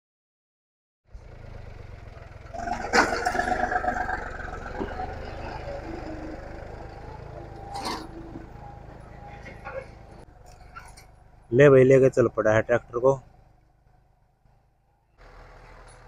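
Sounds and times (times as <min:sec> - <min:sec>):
tractor engine running: 0:01.1 - 0:16.0.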